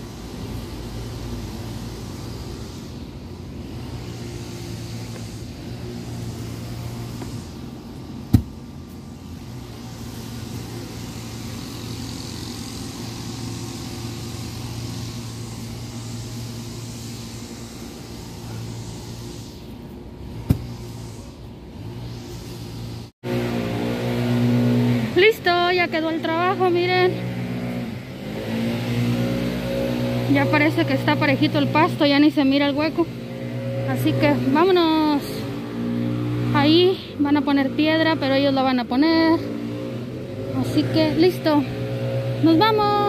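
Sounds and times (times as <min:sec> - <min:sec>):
motor humming steadily: 0:00.0 - 0:39.4.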